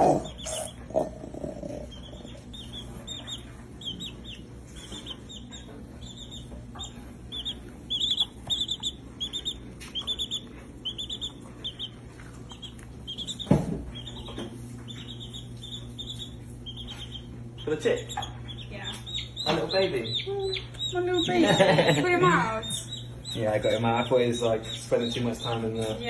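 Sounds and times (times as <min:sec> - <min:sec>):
chick peeping: 0:00.0 - 0:26.0.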